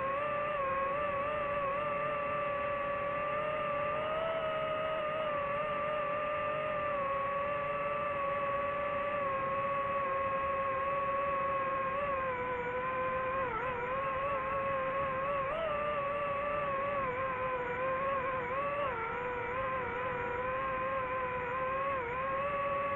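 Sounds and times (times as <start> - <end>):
drone propellers whining: 0.0 - 22.9.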